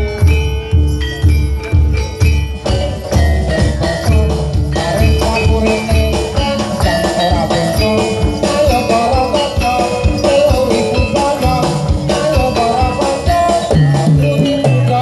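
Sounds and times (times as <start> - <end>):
bells jingling: 0.0 - 15.0
drums and gamelan percussion: 0.0 - 15.0
melody: 0.0 - 15.0.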